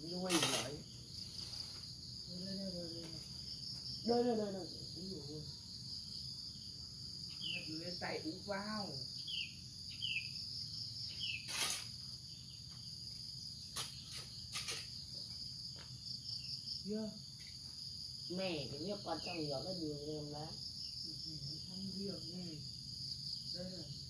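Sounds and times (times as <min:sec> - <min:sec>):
insects chorus: 0:00.0 - 0:24.0.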